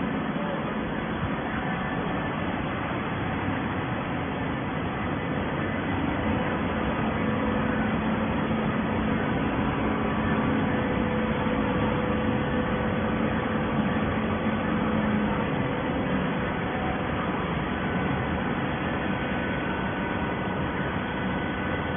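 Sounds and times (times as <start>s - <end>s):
hydraulic baler humming: 0.0s - 21.9s.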